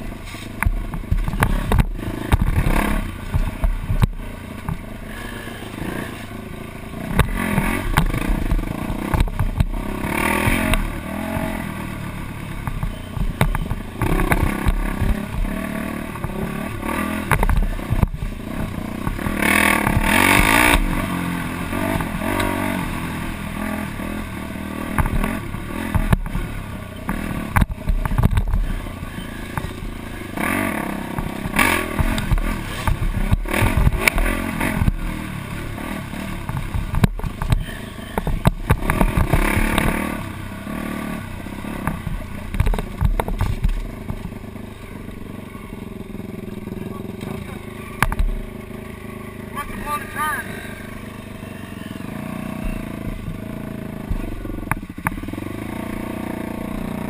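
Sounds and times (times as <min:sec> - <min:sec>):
dirt bike engine revving: 0:00.0 - 0:57.0
rattling over rough ground: 0:00.0 - 0:57.0.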